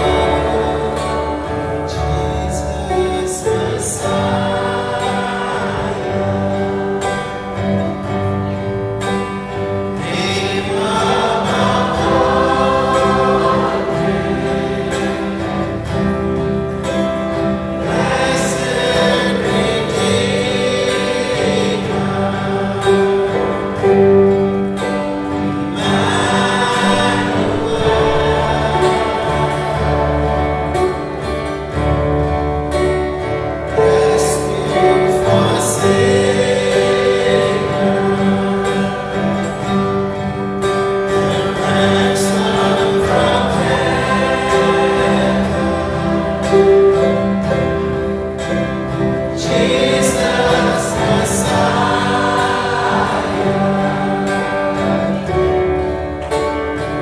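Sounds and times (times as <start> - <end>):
electric guitars: 0.0 - 57.0
keyboard: 0.0 - 57.0
strummed acoustic guitar: 0.0 - 57.0
voices singing together: 0.0 - 57.0.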